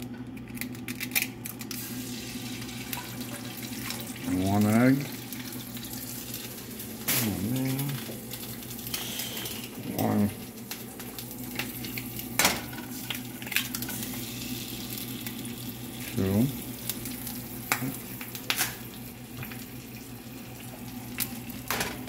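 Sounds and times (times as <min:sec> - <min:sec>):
eggs sizzling in a skillet: 0:01.7 - 0:22.0.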